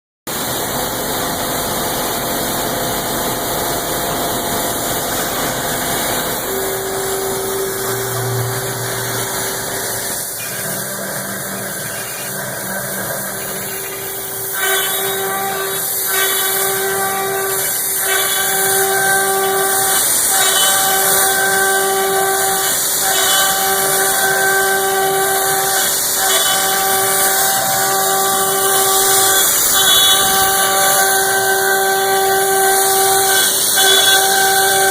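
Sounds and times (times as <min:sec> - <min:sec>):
metal cutting: 0:00.3 - 0:34.9
router spindle whine: 0:00.8 - 0:34.9.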